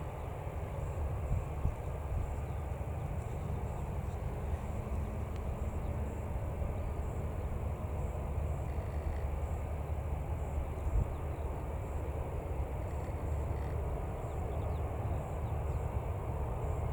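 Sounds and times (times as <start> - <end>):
jet engines low rumble: 0.0 - 16.9.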